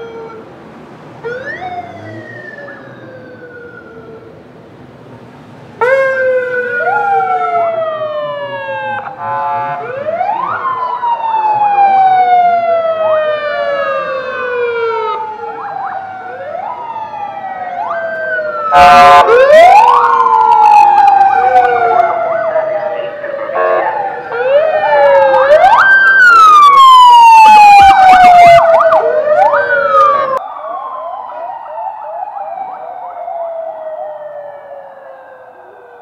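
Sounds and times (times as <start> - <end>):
police sirens wailing: 0.0 - 36.0.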